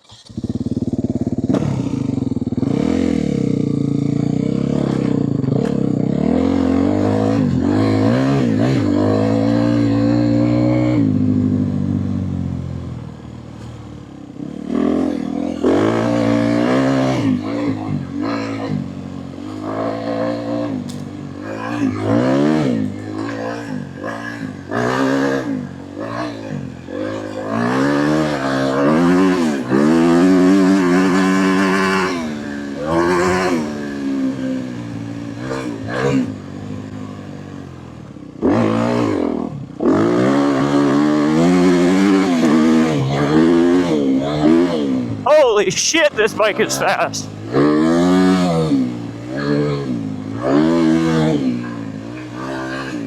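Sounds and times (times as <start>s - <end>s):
dirt bike engine revving: 0.0s - 11.8s, 14.4s - 36.8s, 38.4s - 45.4s, 46.0s - 53.0s.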